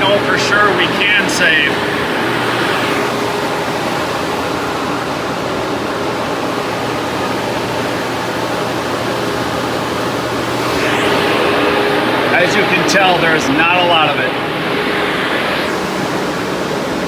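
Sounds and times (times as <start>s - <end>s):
fans rushing air: 0.0s - 17.0s.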